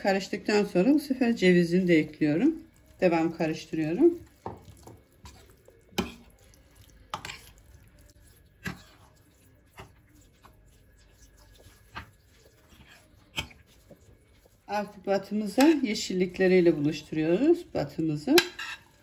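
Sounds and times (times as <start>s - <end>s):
spoon stirring thick mixture: 0.0s - 19.0s.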